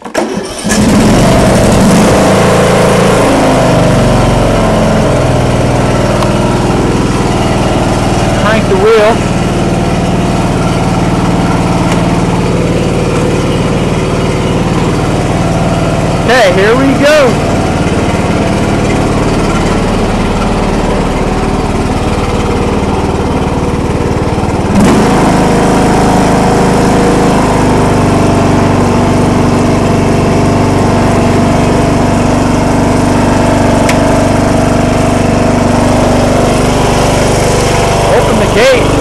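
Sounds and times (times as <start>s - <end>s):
mower engine running: 0.0s - 39.0s.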